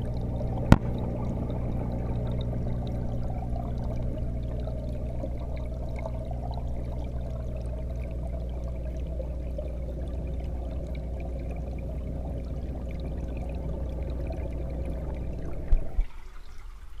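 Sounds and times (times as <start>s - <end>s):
muffled aquarium pump hum: 0.0s - 17.0s.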